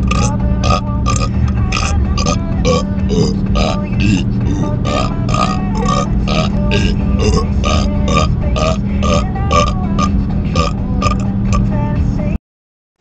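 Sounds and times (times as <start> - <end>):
man burping: 0.0 - 11.2
music with steady beat: 0.0 - 12.0.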